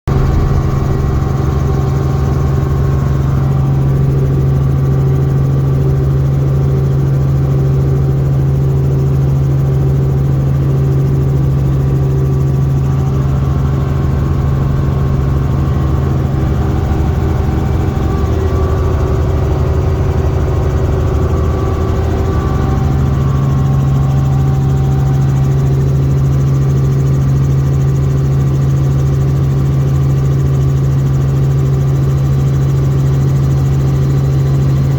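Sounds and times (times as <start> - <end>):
helicopter drone: 0.1 - 34.9.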